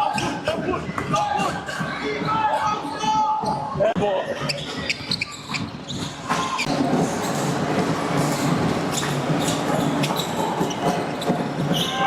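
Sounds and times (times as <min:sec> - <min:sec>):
sneaker squeaks: 0:00.0 - 0:07.6, 0:08.2 - 0:12.0.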